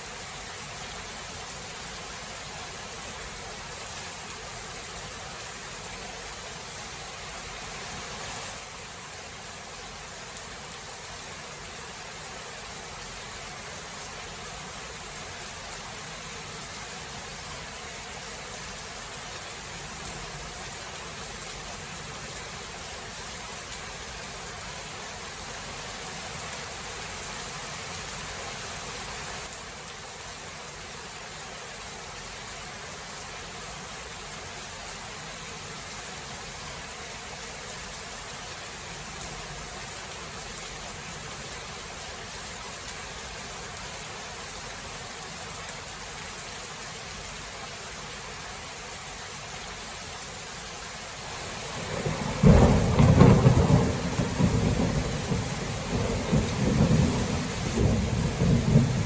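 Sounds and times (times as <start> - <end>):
faint rain patters: 0.0 - 59.0
steady rain hiss: 0.0 - 59.0.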